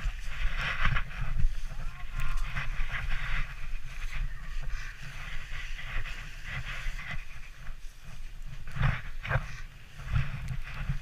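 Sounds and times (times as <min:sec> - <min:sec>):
sledge runners scraping snow: 0:00.0 - 0:11.0
wind rumbling on microphone: 0:00.0 - 0:11.0.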